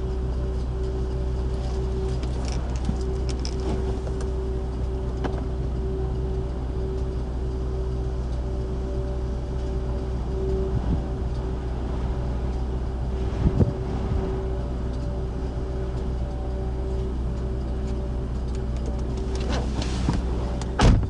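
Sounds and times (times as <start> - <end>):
vehicle rumble and hum: 0.0 - 21.0.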